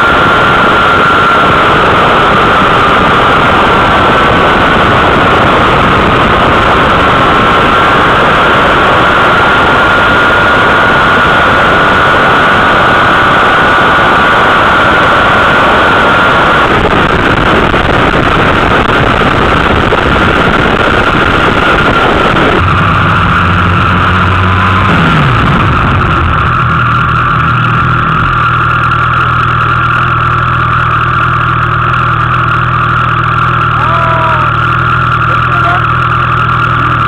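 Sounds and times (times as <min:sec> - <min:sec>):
wind roar on microphone: 0:00.0 - 0:31.0
motorcycle engine: 0:00.0 - 0:37.0.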